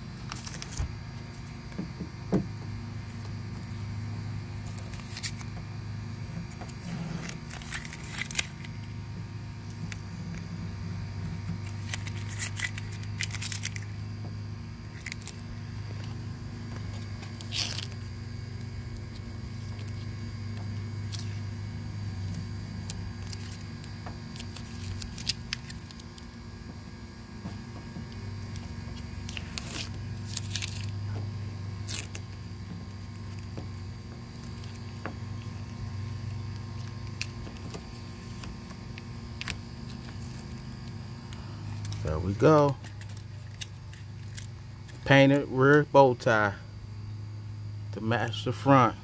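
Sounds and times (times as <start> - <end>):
steady low hum: 0.0 - 49.0
masking tape peeling: 0.2 - 45.5.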